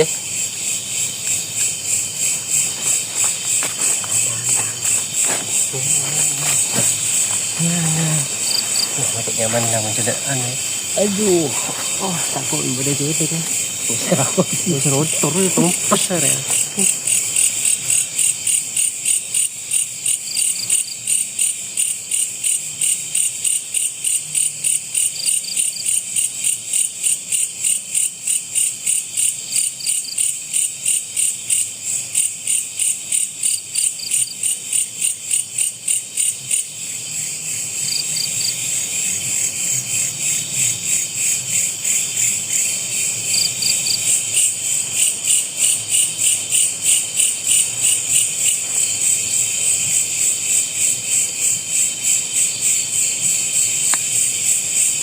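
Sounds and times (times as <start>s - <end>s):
insects pulsing high trill: 0.0s - 55.0s
insects steady high buzz: 0.0s - 55.0s.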